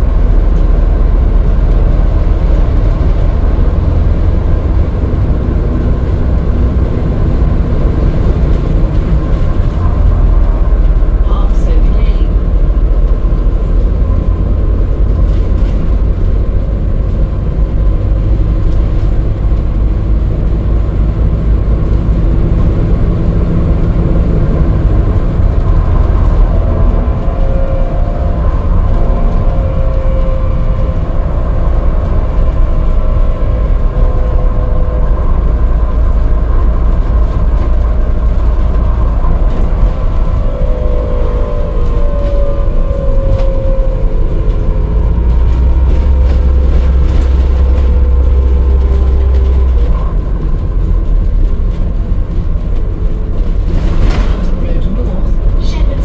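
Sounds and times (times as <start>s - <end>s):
bus road and drivetrain rumble: 0.0s - 56.0s.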